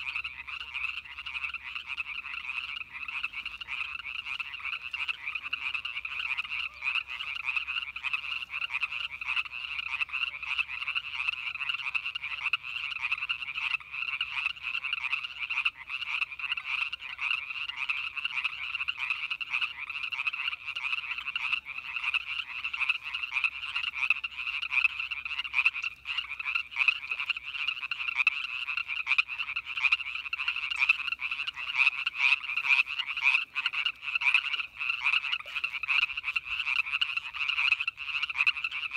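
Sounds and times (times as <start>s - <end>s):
chorus of frogs calling: 0.0s - 38.9s.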